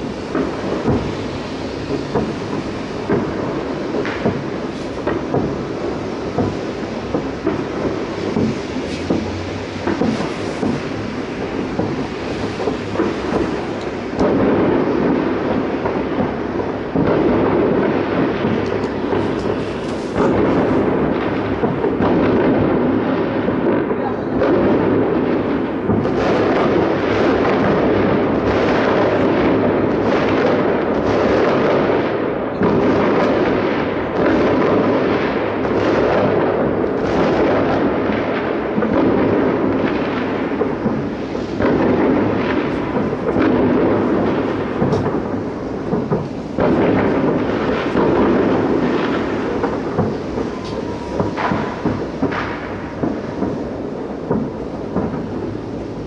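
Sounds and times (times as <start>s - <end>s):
distant fireworks rumbling: 0.0s - 56.0s.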